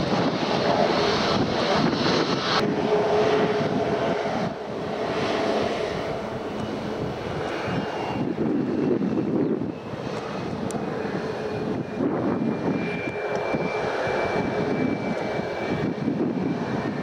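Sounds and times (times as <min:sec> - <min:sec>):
jet engines rushing: 0:00.0 - 0:17.0
wind rumbling on microphone: 0:00.0 - 0:17.0.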